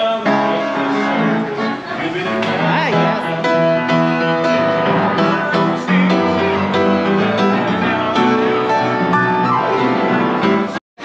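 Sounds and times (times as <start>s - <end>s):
piano instrumental music: 0.0s - 10.8s.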